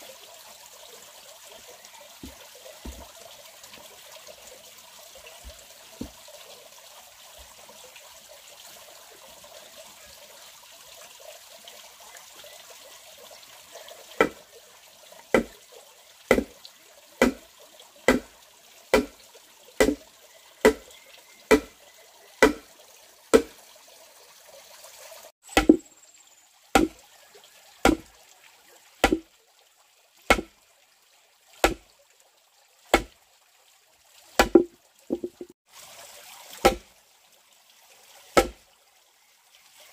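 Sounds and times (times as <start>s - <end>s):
faint rushing water: 0.0s - 39.9s.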